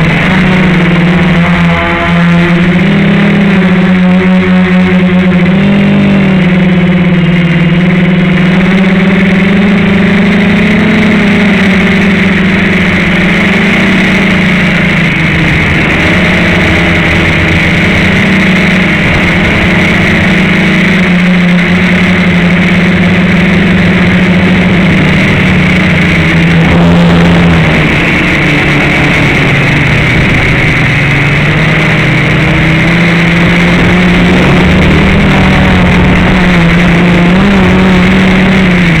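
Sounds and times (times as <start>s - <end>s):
drone motors whining: 0.0s - 39.0s.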